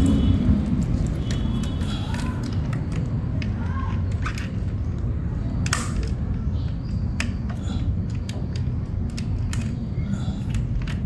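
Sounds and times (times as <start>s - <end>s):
plastic mechanism clicks and creaks: 0.8s - 11.0s.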